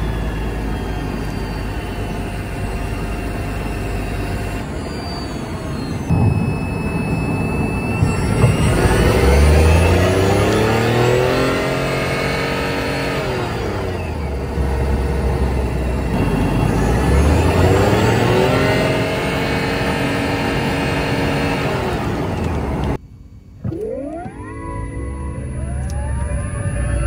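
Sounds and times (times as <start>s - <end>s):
car engine running: 0.0s - 27.0s
electric drive whine: 0.0s - 27.0s.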